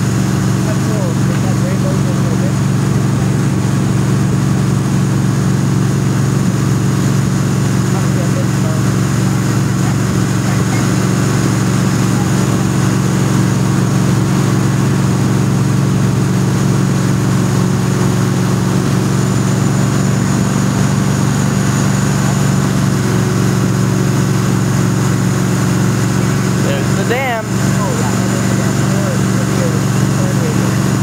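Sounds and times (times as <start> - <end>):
boat engine humming: 0.0 - 31.0
rushing wake and spray: 0.0 - 31.0.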